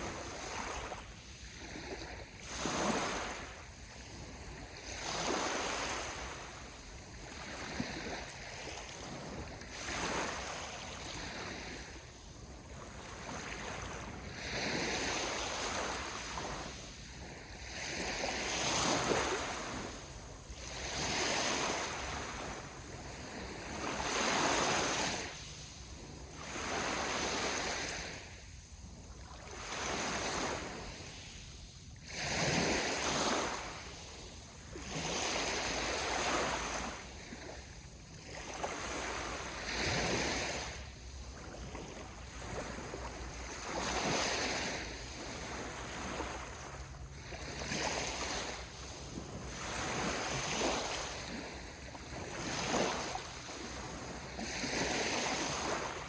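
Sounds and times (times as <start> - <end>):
small waves washing on shore: 0.0 - 56.0.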